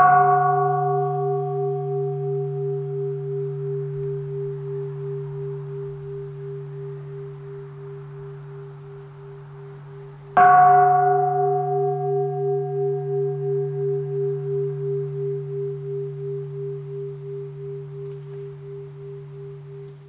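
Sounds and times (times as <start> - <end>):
bowl bell ringing: 0.0 - 20.0.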